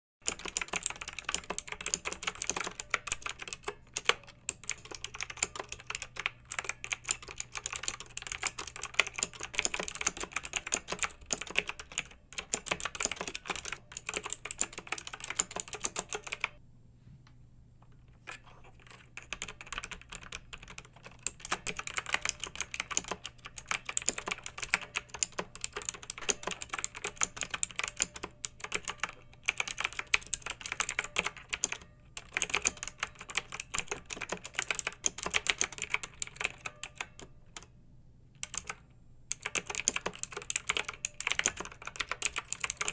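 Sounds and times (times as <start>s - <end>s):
fast keyboard typing: 0.2s - 16.6s, 18.3s - 37.7s, 38.4s - 42.9s.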